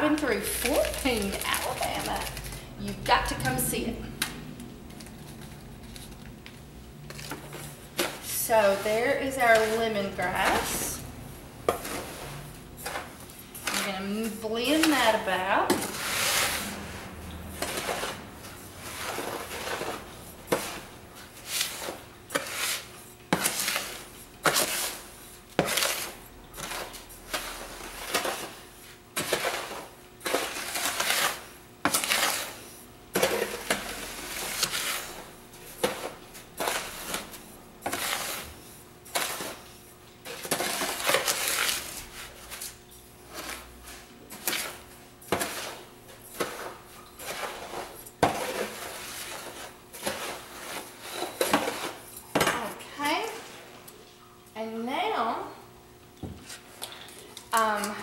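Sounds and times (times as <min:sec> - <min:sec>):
salts scraped by hand in a tub: 0:00.0 - 0:03.9, 0:07.1 - 0:53.8.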